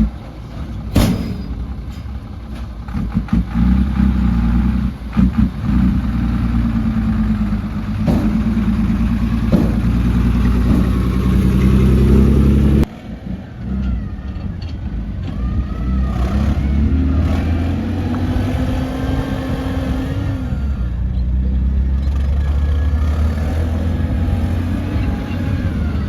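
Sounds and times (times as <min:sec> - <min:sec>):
diesel engines running: 0:00.0 - 0:26.0
engine revving: 0:02.9 - 0:13.1, 0:15.2 - 0:26.0.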